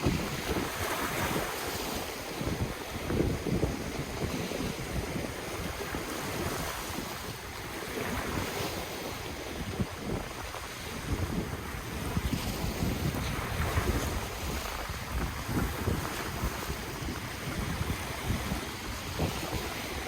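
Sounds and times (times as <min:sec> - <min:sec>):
ocean surf washing: 0:00.0 - 0:20.0
wind buffeting microphone: 0:00.0 - 0:20.0.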